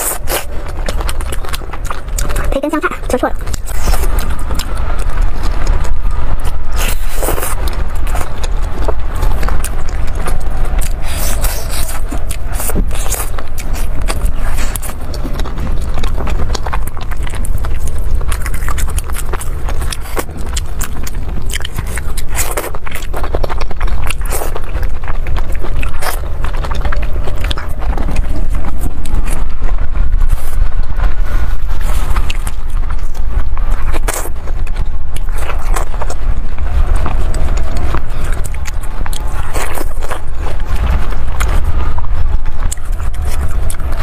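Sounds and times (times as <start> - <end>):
biting and chewing meat: 0.0 - 44.0
low rumble: 0.0 - 44.0.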